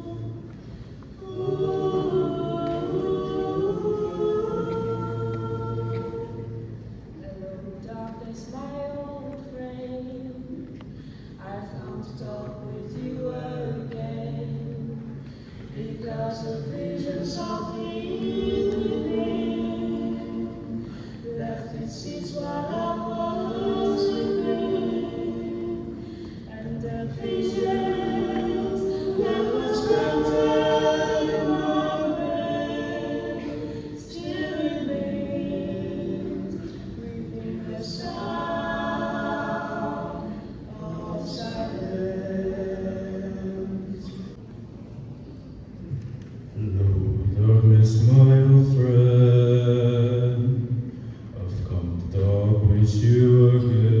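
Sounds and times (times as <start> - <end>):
group singing a cappella: 0.0 - 8.6, 11.4 - 44.4, 46.6 - 54.0.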